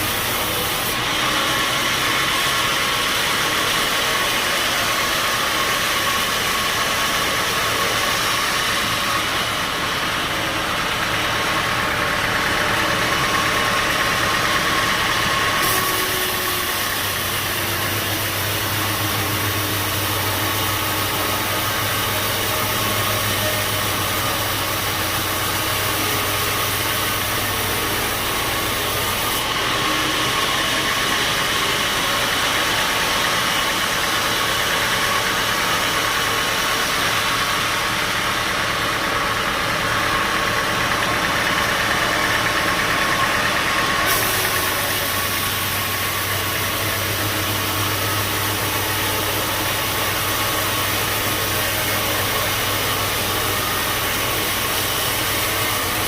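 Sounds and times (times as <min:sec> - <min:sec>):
sawmill machinery hiss: 0:00.0 - 0:56.0.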